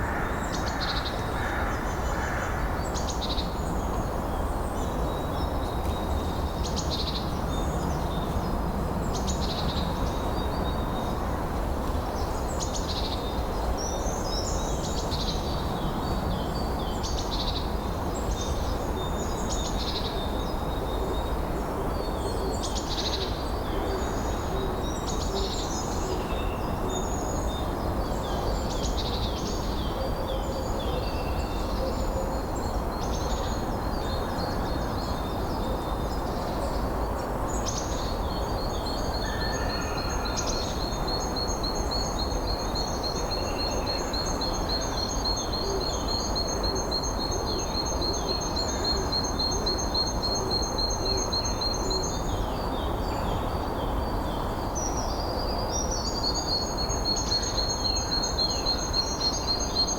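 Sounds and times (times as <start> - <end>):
steady wind: 0.0 - 59.9.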